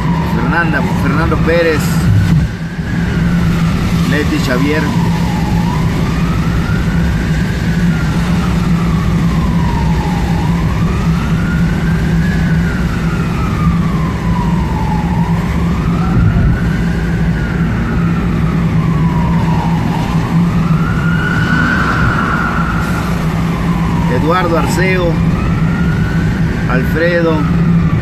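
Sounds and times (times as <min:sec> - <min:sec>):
engine and road drone: 0:00.0 - 0:28.0
siren wailing: 0:00.0 - 0:28.0.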